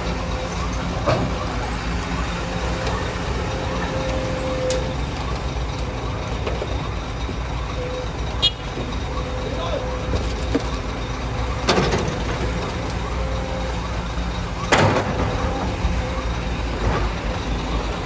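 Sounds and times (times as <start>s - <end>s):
construction machinery engines rumbling: 0.0s - 18.0s.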